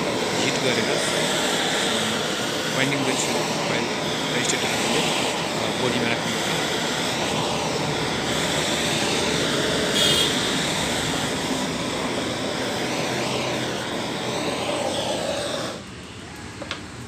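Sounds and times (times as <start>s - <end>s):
heating tool blast: 0.0s - 15.9s.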